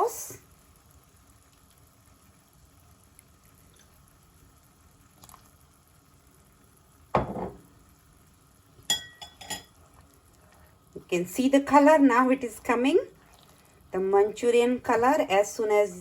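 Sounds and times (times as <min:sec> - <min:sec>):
gravy simmering in a pan: 0:00.0 - 0:15.5.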